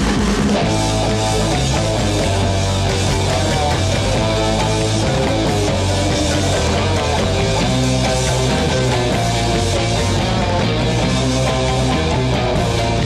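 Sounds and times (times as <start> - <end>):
rock music with guitar: 0.0 - 13.0.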